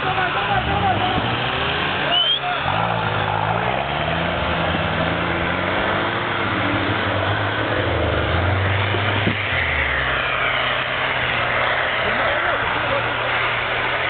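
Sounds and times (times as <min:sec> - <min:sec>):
off-road vehicle engine revving: 0:00.0 - 0:14.0
steady rushing noise: 0:00.0 - 0:14.0.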